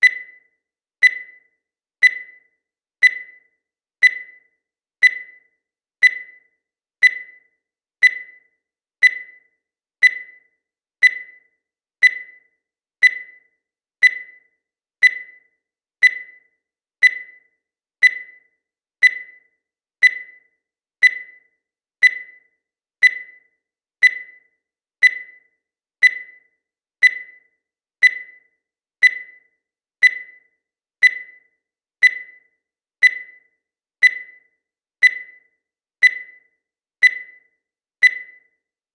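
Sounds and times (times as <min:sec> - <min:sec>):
countdown timer beeping: 0:00.0 - 0:38.7.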